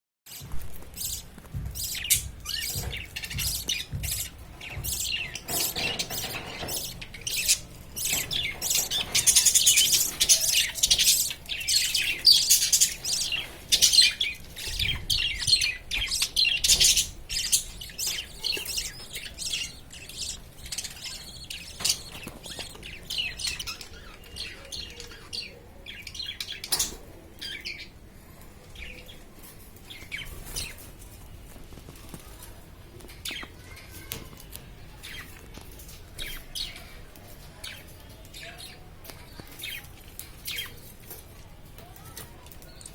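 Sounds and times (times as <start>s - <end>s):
budgerigars chirping and chattering: 0.9s - 28.0s, 28.7s - 31.1s, 33.0s - 34.2s, 34.9s - 41.2s.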